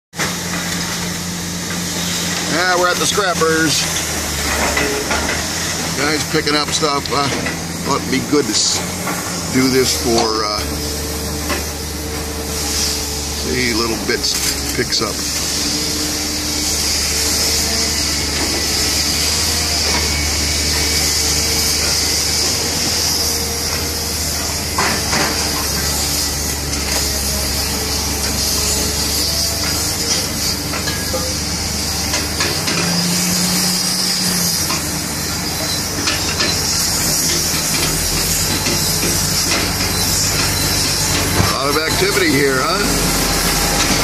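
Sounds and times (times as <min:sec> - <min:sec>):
heavy machinery engine drone: 0:00.2 - 0:44.0.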